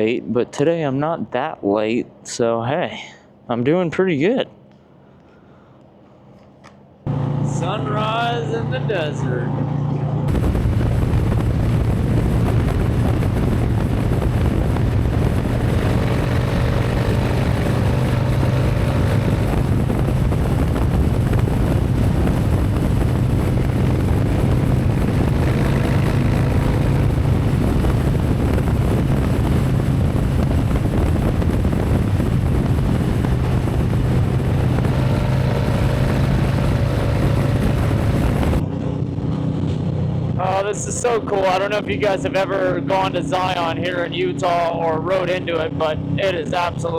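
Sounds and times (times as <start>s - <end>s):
motorcycle engine cruising: 7.0s - 46.9s
wind rushing over microphone: 7.1s - 46.9s.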